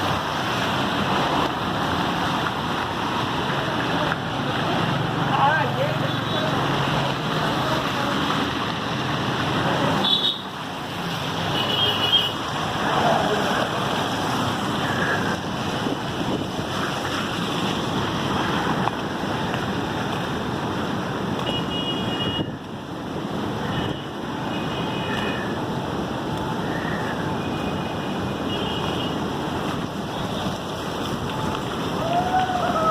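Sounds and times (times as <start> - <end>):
floodwater rushing through dam: 0.0 - 32.9.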